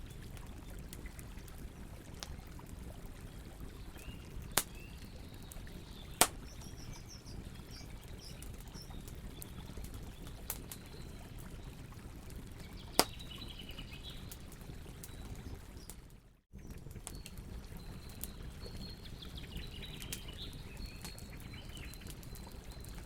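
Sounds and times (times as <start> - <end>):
birds chirping faintly: 0.0 - 23.0
campfire crackling: 0.0 - 23.0.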